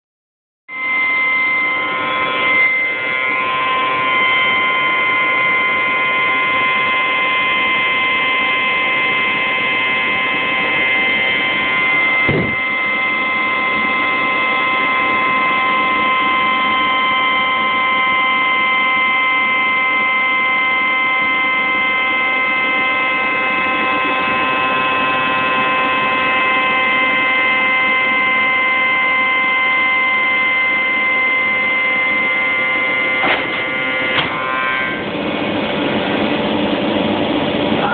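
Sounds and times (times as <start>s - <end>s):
router spindle high whine: 0.7s - 37.9s.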